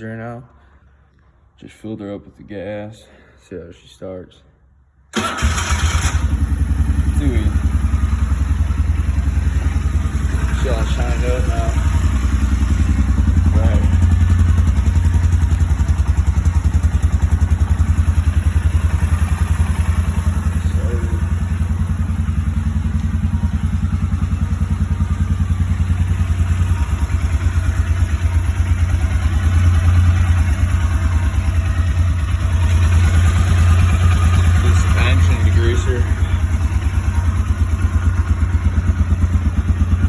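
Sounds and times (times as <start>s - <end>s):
atv engine idling: 5.2s - 40.0s.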